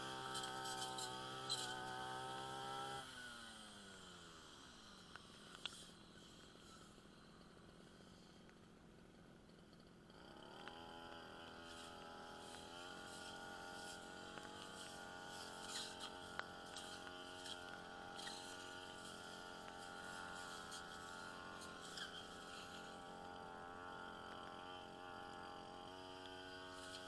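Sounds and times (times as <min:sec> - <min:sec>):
brush cutter engine revving: 0:00.0 - 0:08.4, 0:09.0 - 0:27.0.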